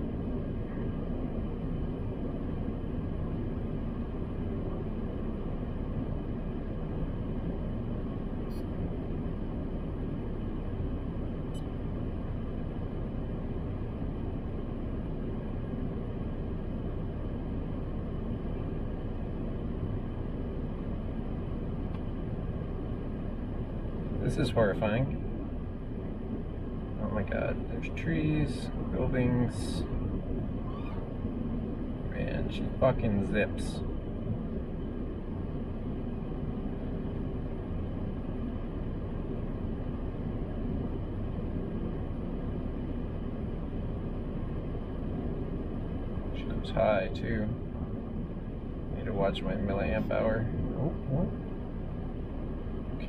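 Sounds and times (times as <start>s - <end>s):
car engine low rumble: 0.0s - 53.0s.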